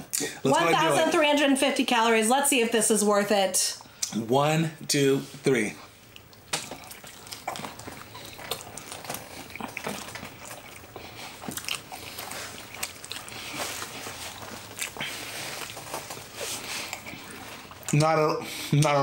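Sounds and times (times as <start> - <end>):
people chewing burger: 0.0 - 1.5, 5.0 - 19.0.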